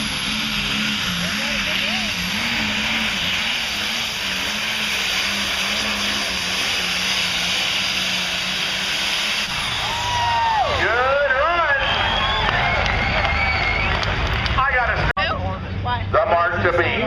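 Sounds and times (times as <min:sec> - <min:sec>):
diesel tractor engine at full power: 0:00.0 - 0:17.0.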